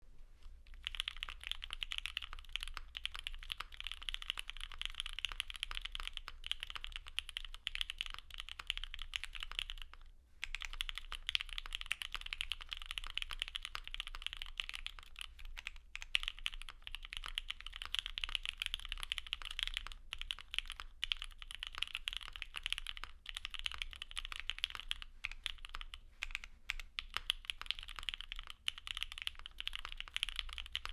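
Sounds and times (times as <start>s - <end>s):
fast typing on mechanical keyboard: 0.8s - 30.9s.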